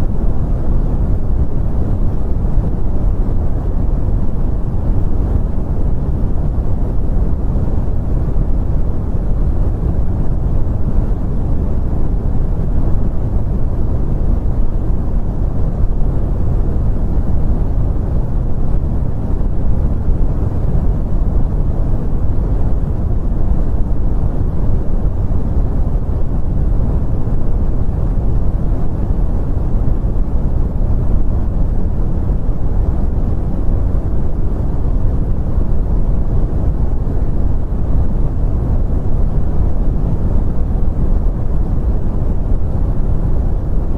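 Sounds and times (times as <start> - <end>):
brown noise: 0.0 - 43.9.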